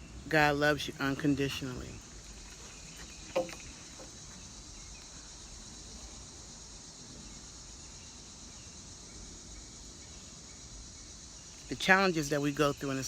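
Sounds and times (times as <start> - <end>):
crickets chirping drone: 0.0 - 13.0.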